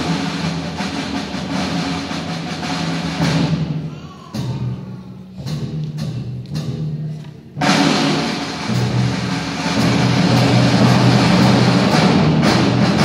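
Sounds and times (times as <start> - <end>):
rolled drums ringing: 0.0 - 13.0
timpani rolls: 0.0 - 13.0.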